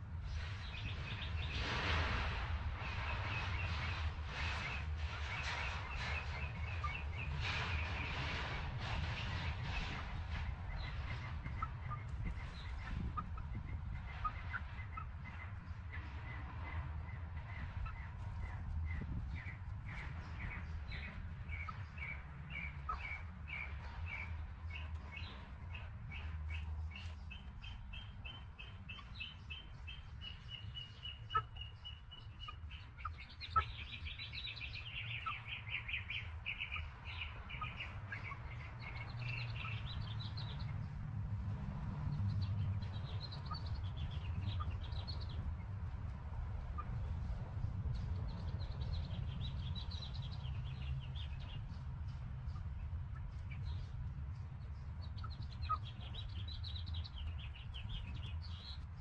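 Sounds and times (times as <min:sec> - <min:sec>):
small birds chirping: 0:00.0 - 0:59.0
steady low rumble: 0:00.0 - 0:59.0.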